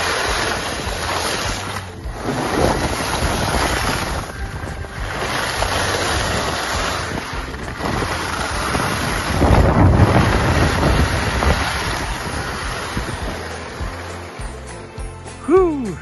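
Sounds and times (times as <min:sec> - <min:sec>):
wind buffeting microphone: 0:00.0 - 0:15.0
skis sliding on snow: 0:00.0 - 0:15.2.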